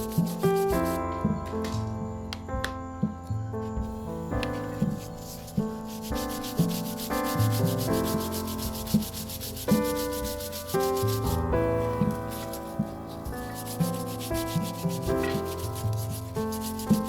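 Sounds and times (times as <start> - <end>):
sandpaper rubbing on wood: 0.0 - 1.0, 4.3 - 17.0
background music: 0.0 - 17.0.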